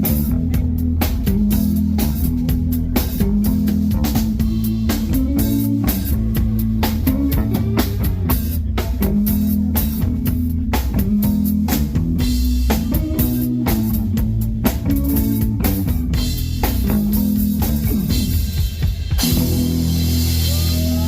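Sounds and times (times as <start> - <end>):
live blues band playing: 0.0 - 21.0.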